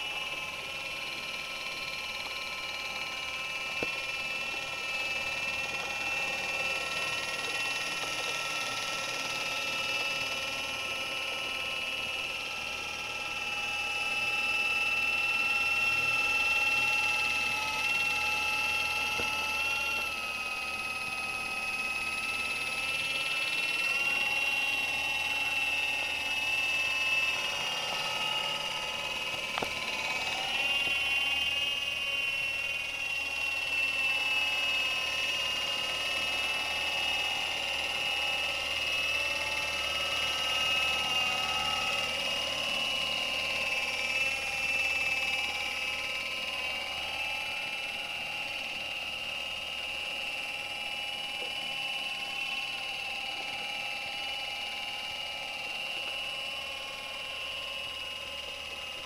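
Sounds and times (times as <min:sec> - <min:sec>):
model helicopter motor whine: 0:00.0 - 0:59.0.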